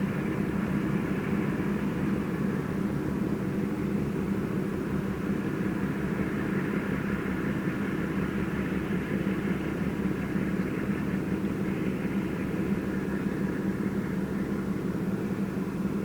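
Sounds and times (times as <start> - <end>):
building equipment droning: 0.0 - 16.0.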